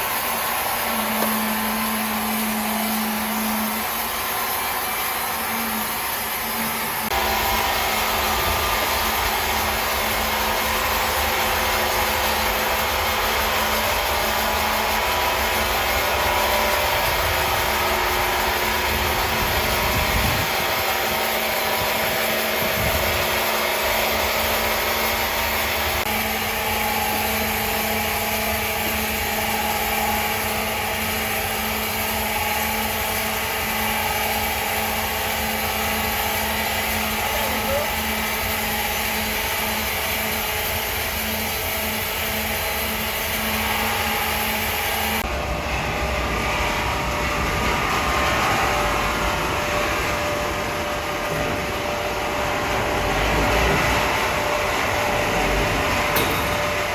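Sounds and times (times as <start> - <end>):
faint steady machine tones: 0.0 - 56.9
sawmill machinery running: 0.0 - 56.9.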